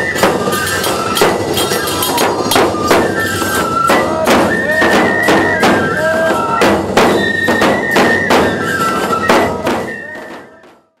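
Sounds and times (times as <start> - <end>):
cymbal strokes: 0.0 - 9.8
bamboo flute melody: 0.0 - 11.0
drum strokes: 0.0 - 11.0.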